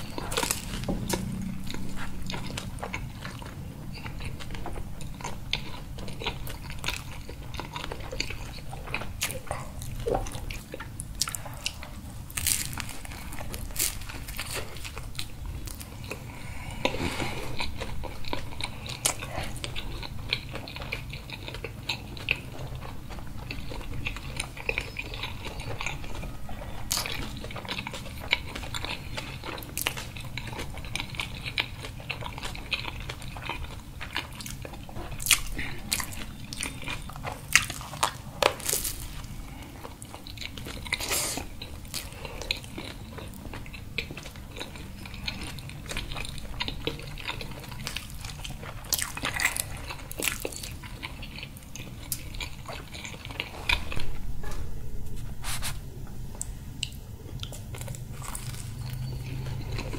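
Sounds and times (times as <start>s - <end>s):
people chewing food: 0.0s - 59.9s.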